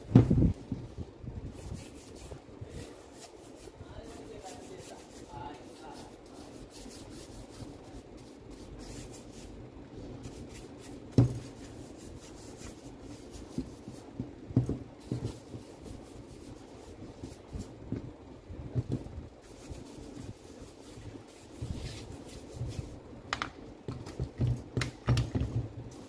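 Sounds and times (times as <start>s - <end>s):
brush scrubbing plastic: 0.4s - 18.0s, 18.8s - 23.0s.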